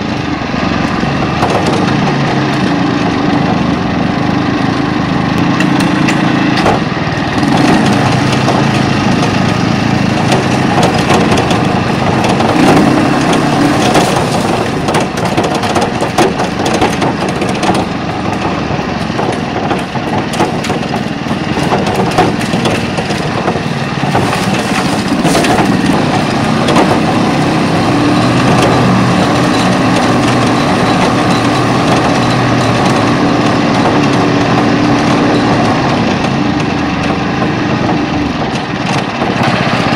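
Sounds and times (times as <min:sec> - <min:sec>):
tractor engine running: 0:00.0 - 0:39.9
clatter of sharp knocks: 0:00.8 - 0:03.8, 0:04.5 - 0:39.9.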